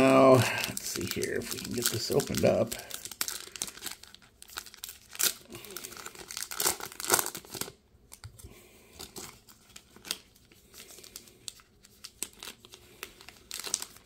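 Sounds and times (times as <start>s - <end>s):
foil wrapper tearing: 0.0s - 8.2s, 9.0s - 14.0s
foil crinkling and crackling: 0.0s - 14.0s.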